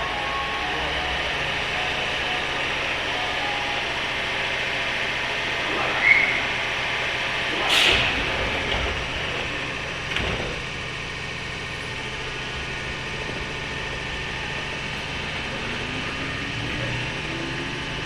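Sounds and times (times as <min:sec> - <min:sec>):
train motor hum and rumble: 0:00.0 - 0:18.0.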